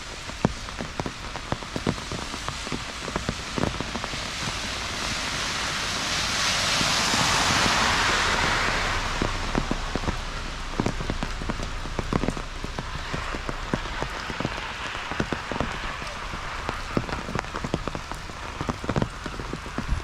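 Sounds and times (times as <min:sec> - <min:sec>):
rain falling: 0:00.0 - 0:20.0
raindrops tapping close by: 0:00.0 - 0:20.0.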